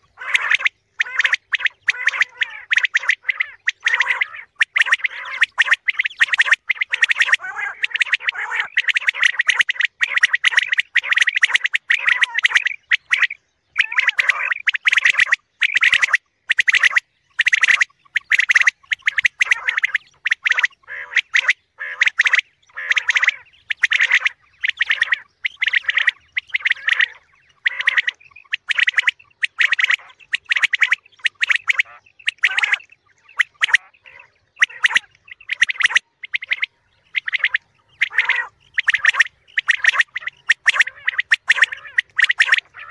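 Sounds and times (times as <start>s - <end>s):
quail calls: 0.0s - 42.9s.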